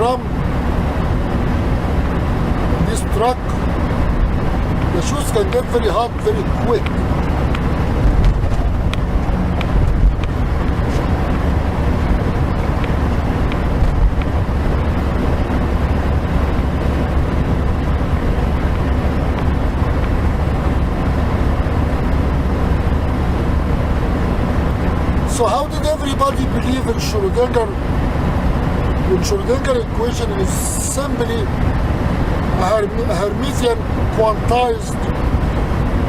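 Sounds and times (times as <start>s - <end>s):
heavy truck engine drone: 0.0s - 36.0s
road noise: 0.0s - 36.0s.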